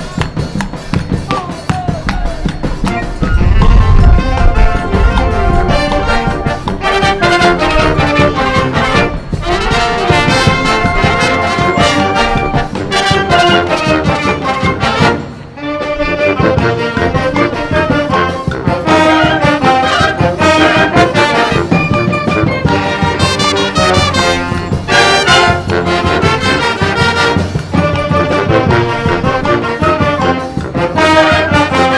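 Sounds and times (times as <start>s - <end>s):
brass band playing: 0.0s - 31.9s.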